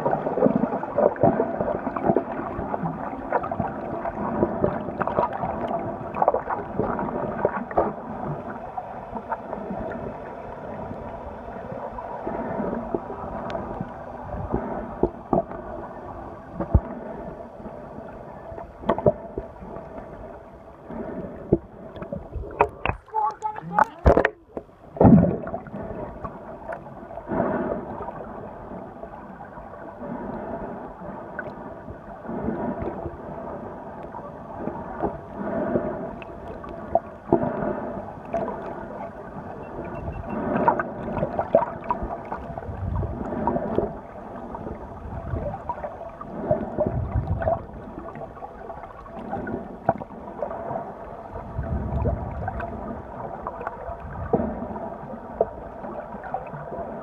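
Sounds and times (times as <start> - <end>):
muffled underwater sloshing: 0.0 - 57.0.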